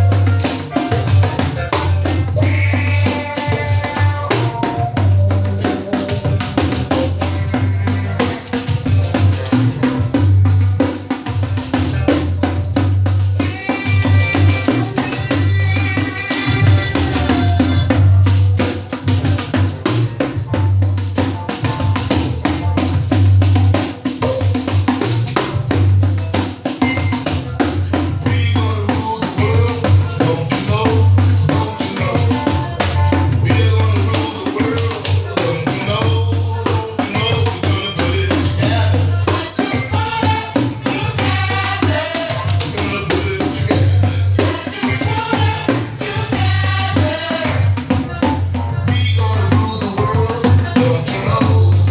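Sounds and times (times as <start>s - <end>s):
recorded song with pulsing bass: 0.0s - 51.9s.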